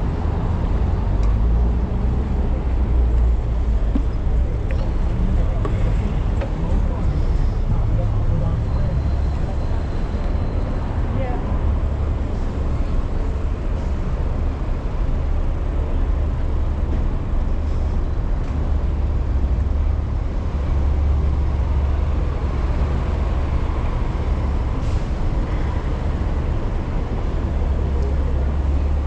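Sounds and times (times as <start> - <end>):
passing street traffic: 0.0 - 29.0.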